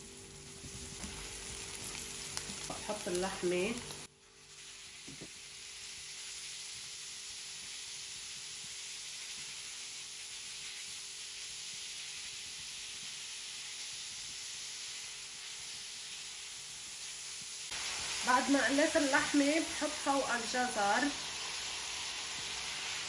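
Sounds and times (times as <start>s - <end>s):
meat sizzling in a frying pan: 0.0s - 23.0s.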